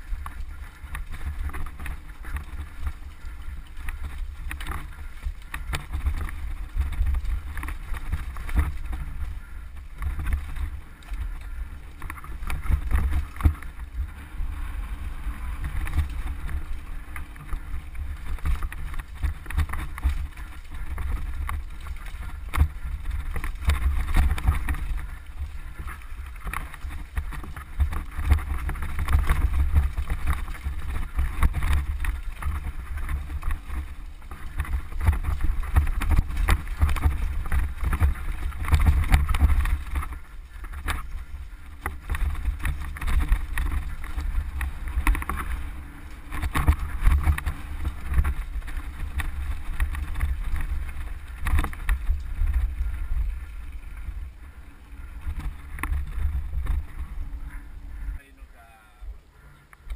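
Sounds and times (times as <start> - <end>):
mountain bike rattling on rocks: 0.0 - 59.9
wind buffeting microphone: 0.0 - 59.9.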